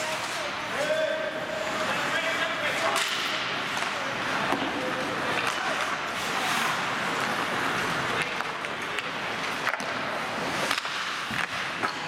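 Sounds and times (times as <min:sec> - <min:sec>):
hockey sticks and puck clacking: 0:00.0 - 0:12.0
skates scraping ice: 0:00.0 - 0:12.0.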